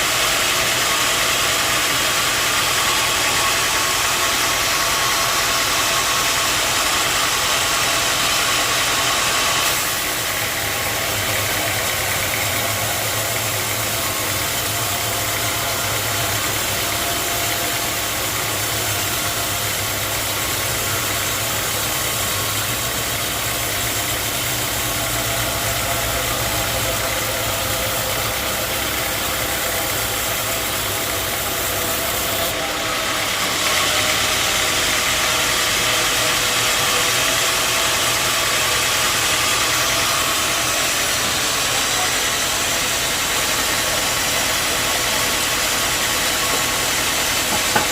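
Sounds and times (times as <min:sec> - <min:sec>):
sawmill machinery humming: 0:00.0 - 0:47.9.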